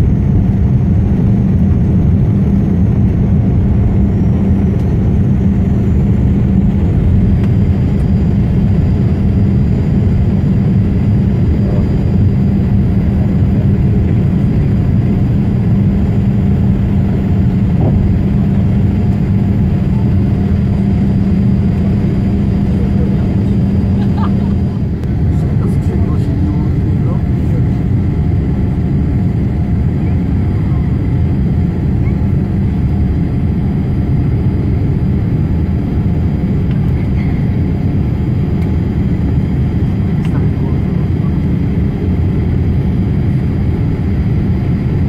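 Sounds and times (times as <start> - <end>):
jet engines rumbling in cabin: 0.0 - 45.0.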